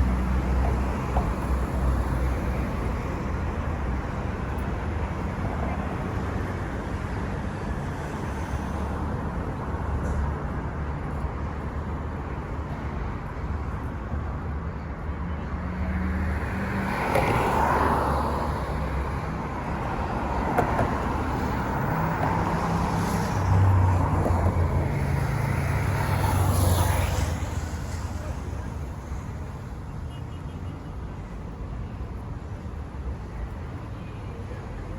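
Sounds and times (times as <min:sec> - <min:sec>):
car engines passing: 0:00.0 - 0:34.9.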